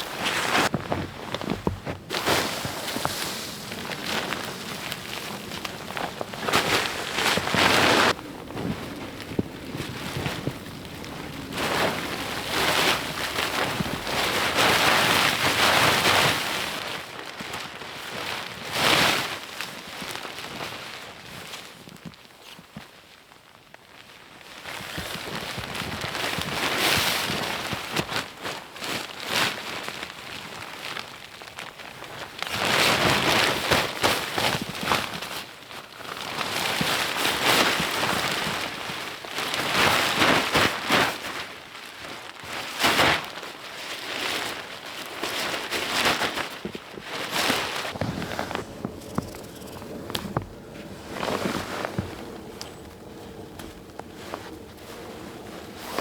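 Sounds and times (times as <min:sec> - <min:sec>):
camping gear rustling: 0:00.0 - 0:22.8, 0:27.3 - 0:56.0.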